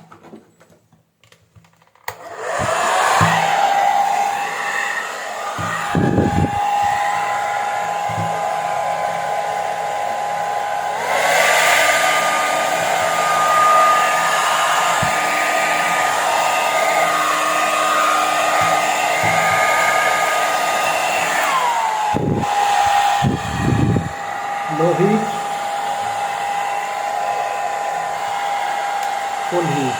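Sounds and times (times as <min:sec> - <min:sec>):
hair dryer motor whine: 0:02.0 - 0:29.9.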